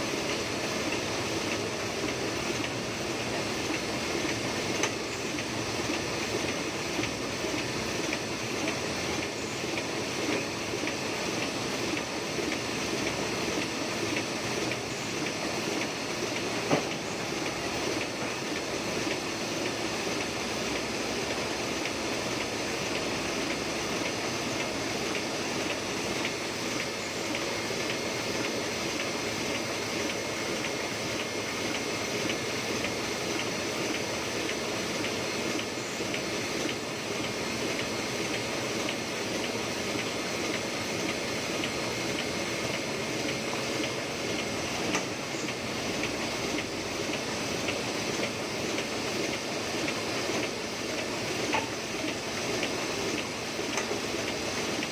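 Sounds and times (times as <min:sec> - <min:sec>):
printing press clattering: 0:00.0 - 0:54.9.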